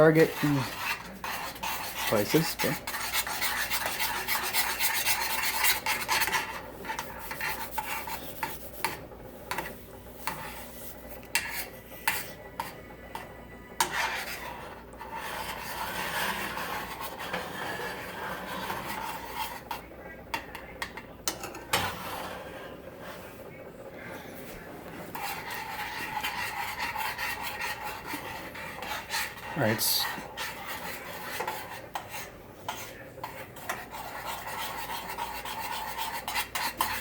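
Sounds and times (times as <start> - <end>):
utensil scraping a saucepan: 0.0 - 37.0.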